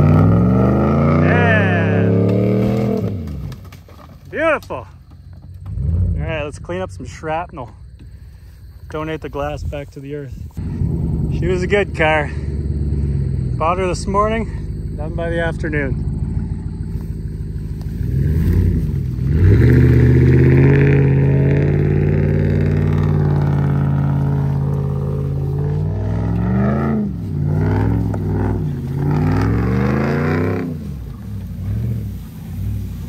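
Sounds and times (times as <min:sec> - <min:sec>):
vehicle engine revving: 0:00.0 - 0:04.1, 0:05.2 - 0:07.2, 0:10.5 - 0:33.0.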